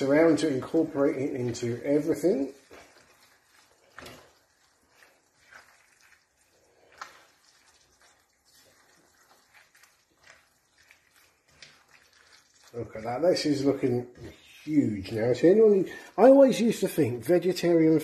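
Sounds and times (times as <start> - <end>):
spatula scraping frying pan: 0.0 - 16.0.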